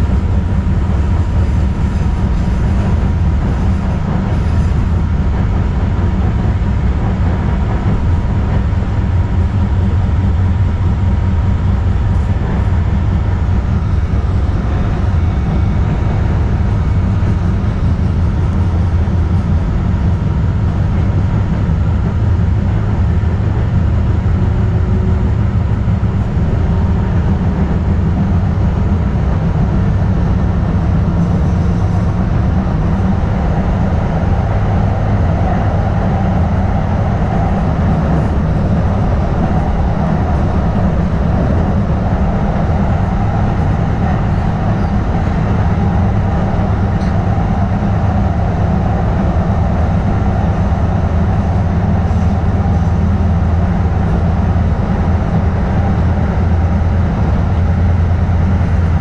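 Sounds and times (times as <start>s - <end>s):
faint steady whine: 0.0s - 59.0s
train wheels rumbling on rail: 0.0s - 59.0s.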